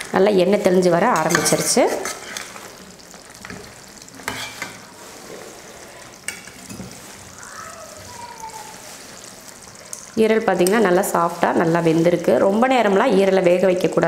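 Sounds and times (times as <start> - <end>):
gravy sizzling in a pan: 0.0 - 14.0.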